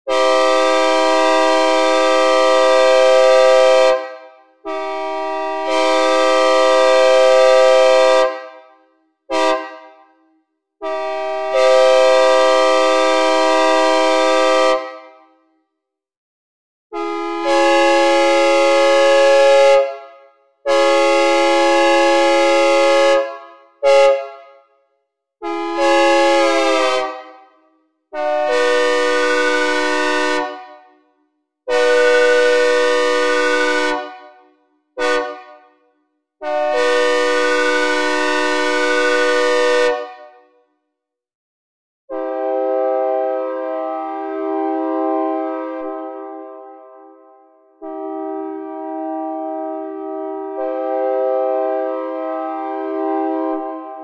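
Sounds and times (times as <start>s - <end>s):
synthesized train air horn: 0.0s - 15.4s, 16.9s - 24.8s, 25.4s - 31.0s, 31.7s - 35.8s, 36.4s - 40.5s, 42.1s - 54.0s.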